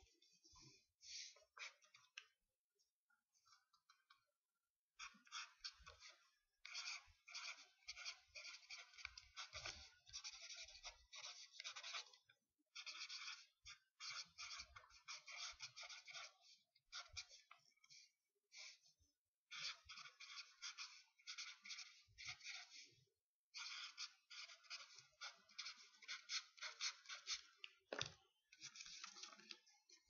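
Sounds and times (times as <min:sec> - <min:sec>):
marker scratching on paper: 0:00.0 - 0:02.2, 0:05.0 - 0:18.8, 0:19.5 - 0:28.0, 0:28.6 - 0:30.0.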